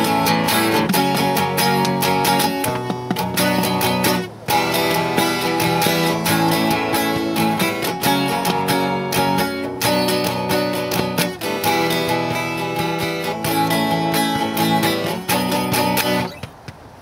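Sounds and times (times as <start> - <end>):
guitar chords strummed: 0.0 - 16.4.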